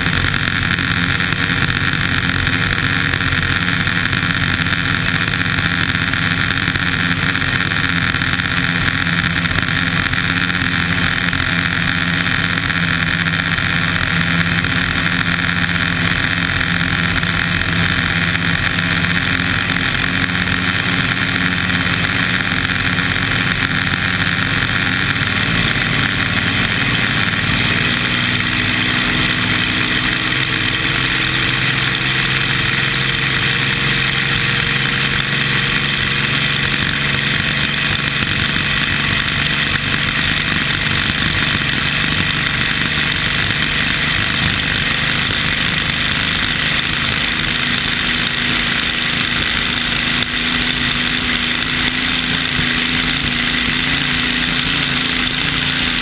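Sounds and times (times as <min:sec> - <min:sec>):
racing boat engine: 0:00.0 - 0:56.0.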